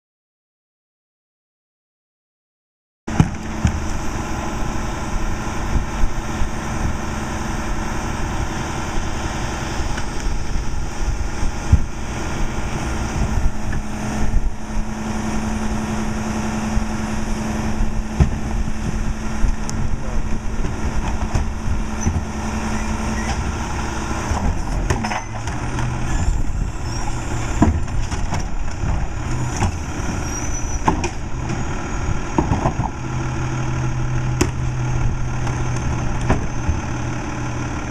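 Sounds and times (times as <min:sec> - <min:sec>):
diesel truck engine idling: 0:03.1 - 0:37.9.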